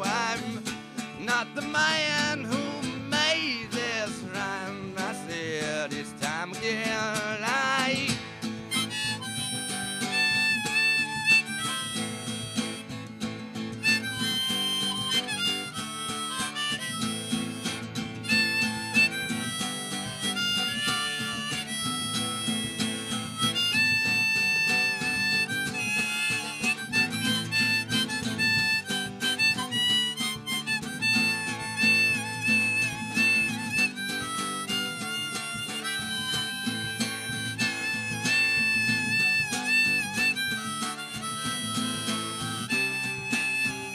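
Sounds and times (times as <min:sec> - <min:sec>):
acoustic guitar: 0:00.0 - 0:43.9
harmonica solo: 0:00.0 - 0:43.9.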